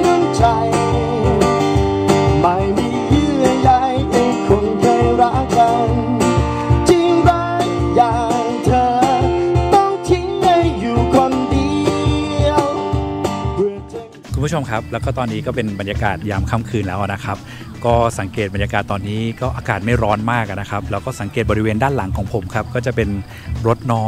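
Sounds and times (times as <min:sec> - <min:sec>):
man singing: 0:00.0 - 0:24.0
strummed acoustic guitar: 0:00.0 - 0:24.0.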